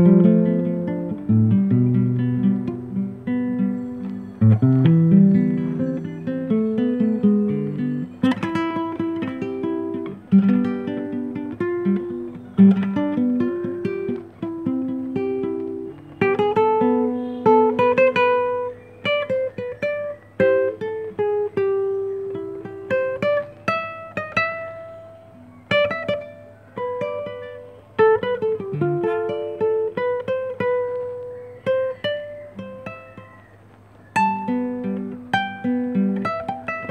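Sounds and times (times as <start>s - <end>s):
fingerstyle acoustic guitar: 0.0s - 36.9s.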